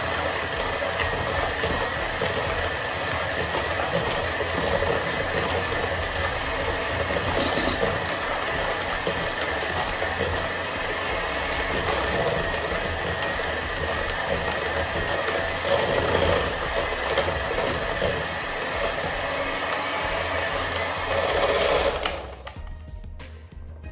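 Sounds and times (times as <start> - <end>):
electric hand mixer whining: 0.0 - 22.7.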